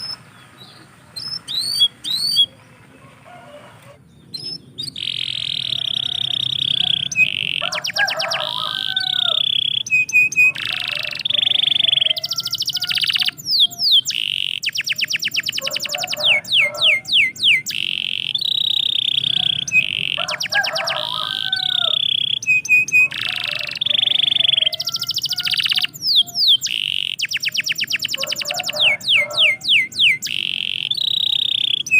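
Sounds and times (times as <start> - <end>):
canary singing trills: 0.0 - 31.9.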